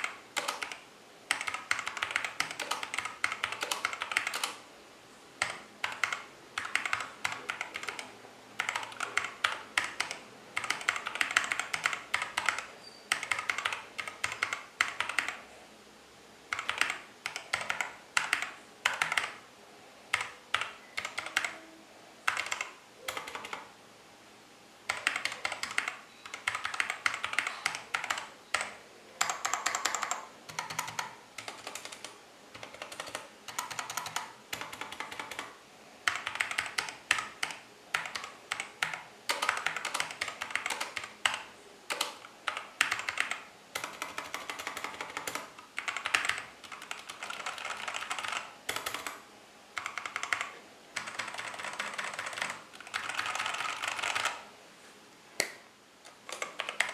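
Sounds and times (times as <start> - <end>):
mechanical keyboard typing: 0.0 - 4.6, 5.4 - 15.4, 16.5 - 19.4, 20.1 - 21.6, 22.3 - 23.7, 24.9 - 49.2, 49.8 - 54.4, 55.4 - 56.9.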